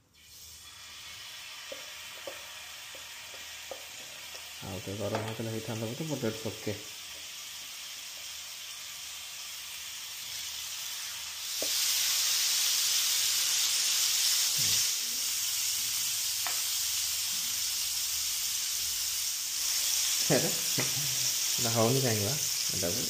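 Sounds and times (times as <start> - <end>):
fish sizzling in oil: 0.0 - 23.0.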